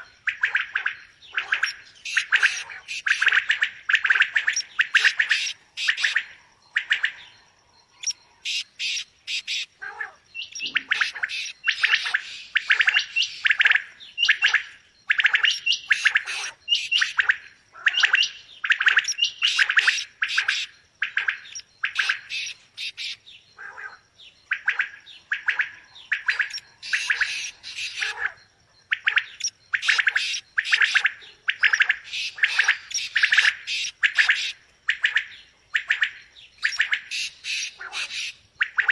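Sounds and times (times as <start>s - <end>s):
quail calling: 0.0s - 7.3s, 8.0s - 38.9s.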